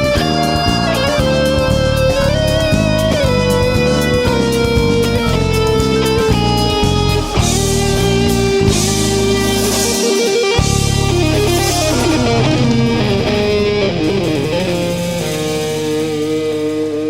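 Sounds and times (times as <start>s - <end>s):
electric bass: 0.0s - 17.0s
electric guitar: 0.0s - 17.0s.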